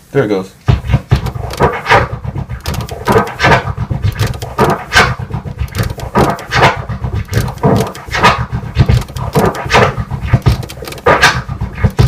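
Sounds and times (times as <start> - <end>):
turntable scratching drum sample: 0.7 - 12.0.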